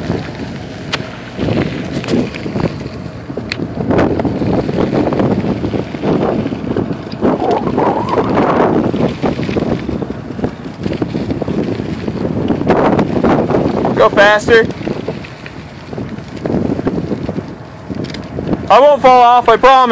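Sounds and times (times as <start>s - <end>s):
wheels rolling on dirt road: 0.0s - 19.9s
wind buffeting microphone: 0.0s - 19.9s.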